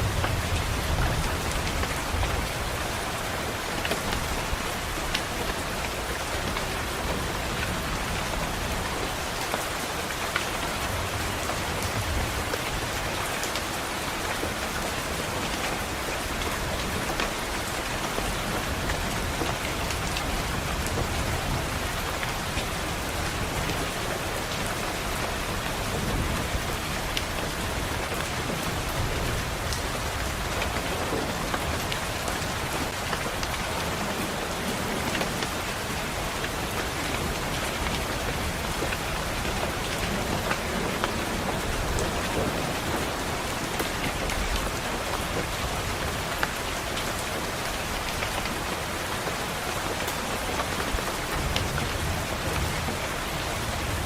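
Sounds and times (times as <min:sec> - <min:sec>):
rain pattering on window: 0:00.0 - 0:54.0.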